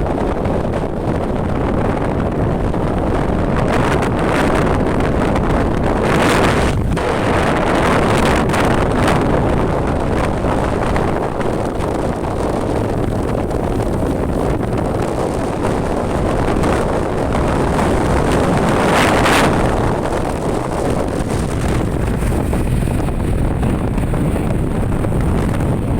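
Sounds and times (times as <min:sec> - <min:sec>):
motorcycle engine and road noise: 0:00.0 - 0:25.9
wind buffeting microphone: 0:00.0 - 0:25.9.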